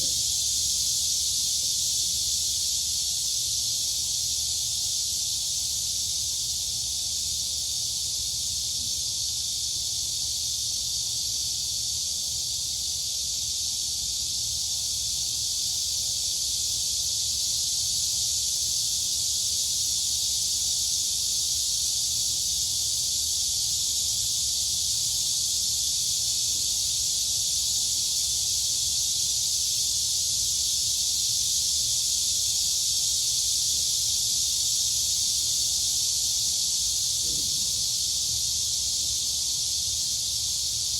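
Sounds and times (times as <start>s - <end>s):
crickets and cicadas chorus: 0.0s - 40.9s.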